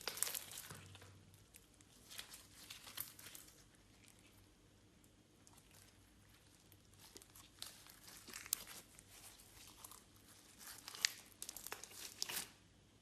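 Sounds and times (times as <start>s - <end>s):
slime crackling and popping: 0.0s - 12.6s.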